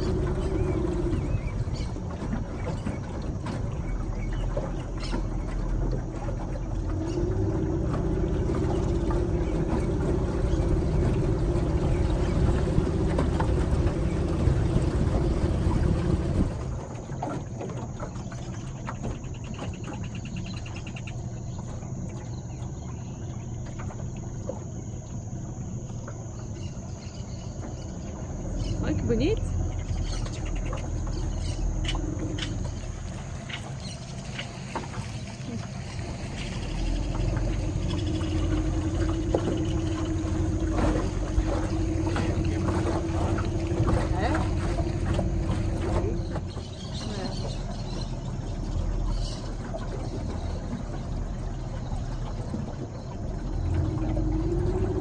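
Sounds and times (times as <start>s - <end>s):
boat motor running: 0.0s - 55.0s
water rushing past hull: 0.0s - 55.0s
insects buzzing: 3.8s - 55.0s.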